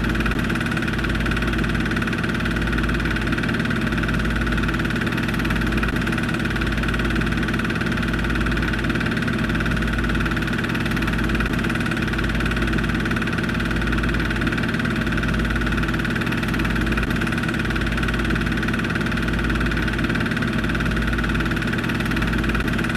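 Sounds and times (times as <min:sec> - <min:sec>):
film projector whirring: 0:00.0 - 0:22.9.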